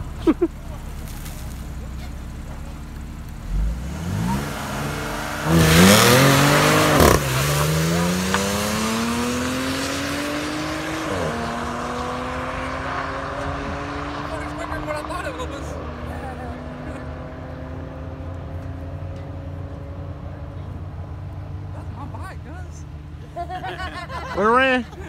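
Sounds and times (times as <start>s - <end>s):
car engine accelerating hard: 0.0s - 21.8s.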